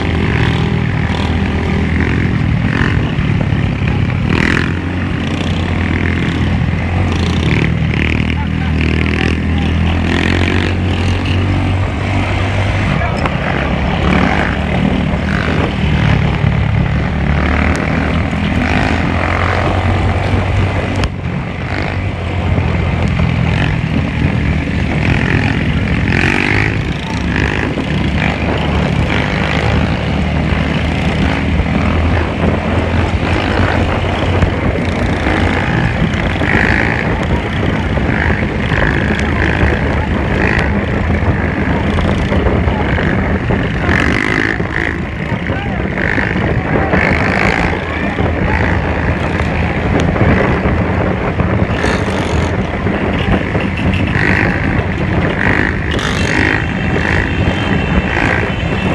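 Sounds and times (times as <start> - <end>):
motorcycle engines droning: 0.0 - 58.9
voices: 0.0 - 58.9.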